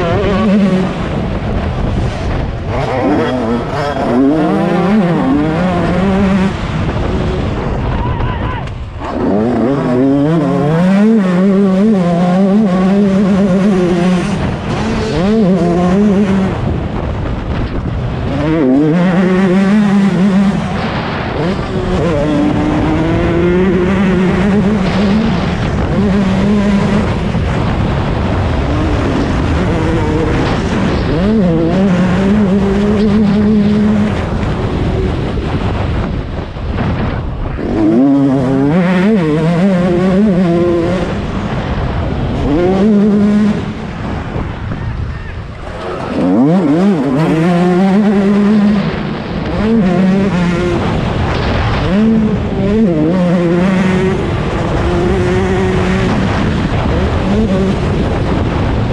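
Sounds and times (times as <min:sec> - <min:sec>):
motocross engine revving hard: 0:00.0 - 0:07.7, 0:09.0 - 0:36.2, 0:36.8 - 0:44.5, 0:45.6 - 0:58.9.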